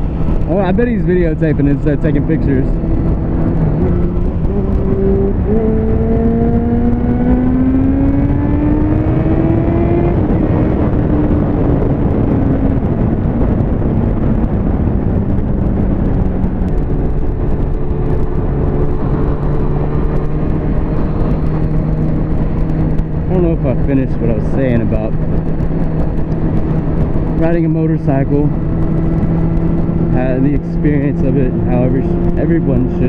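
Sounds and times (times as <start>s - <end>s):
motorcycle engine accelerating: 0.0s - 33.0s
wind noise: 0.0s - 33.0s.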